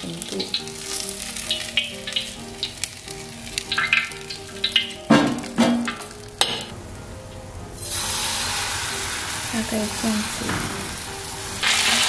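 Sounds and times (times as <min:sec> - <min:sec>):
fritter sizzling in hot oil: 0:00.0 - 0:06.6, 0:07.8 - 0:12.0.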